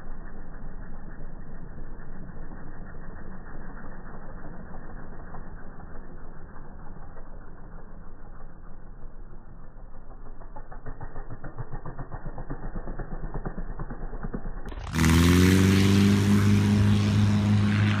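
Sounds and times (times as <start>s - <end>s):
engine droning fly-by: 0.0s - 18.0s.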